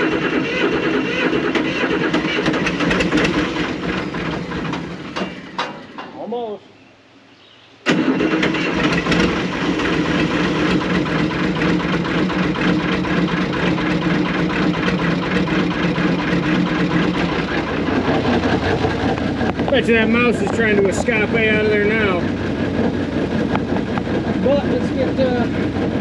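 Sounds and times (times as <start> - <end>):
diesel engine clattering: 0.0 - 6.2, 7.9 - 26.0.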